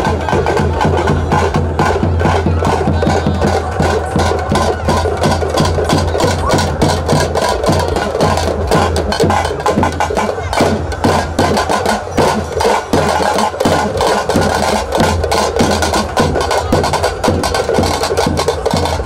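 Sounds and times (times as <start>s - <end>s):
loud percussion music: 0.0s - 19.0s.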